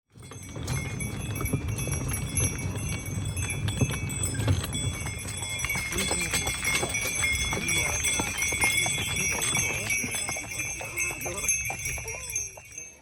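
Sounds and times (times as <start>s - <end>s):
harness bells ringing: 0.1s - 13.0s
horse hooves clip-clopping: 0.1s - 13.0s.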